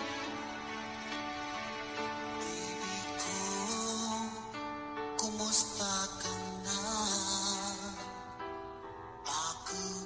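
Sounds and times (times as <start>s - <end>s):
recorded love song playing: 0.0s - 10.0s.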